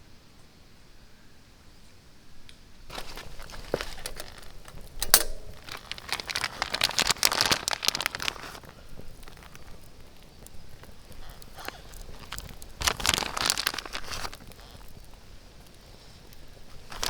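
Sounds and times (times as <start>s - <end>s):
crackles and snaps: 2.5s - 17.0s
rustling and crinkling: 2.9s - 17.0s.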